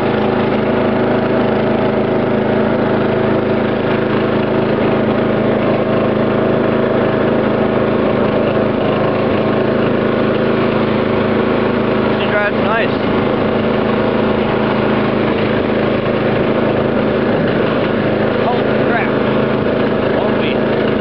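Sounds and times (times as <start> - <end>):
lawn tractor engine running: 0.0 - 21.0.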